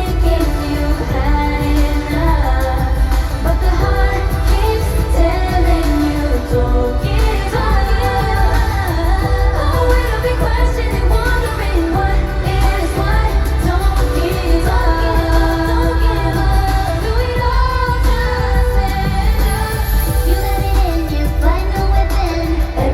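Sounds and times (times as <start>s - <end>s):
backing track with heavy bass: 0.0s - 22.9s
women singing pop song: 0.0s - 22.9s.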